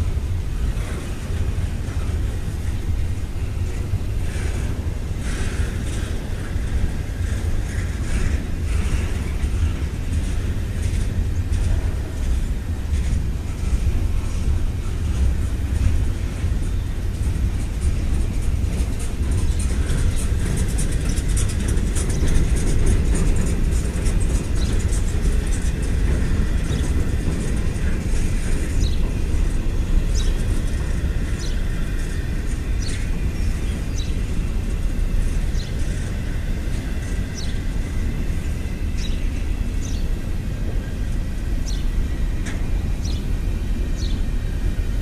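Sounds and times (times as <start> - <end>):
train cars rumbling on rails: 0.0 - 45.0
wheels clicking and squeaking: 0.6 - 44.8.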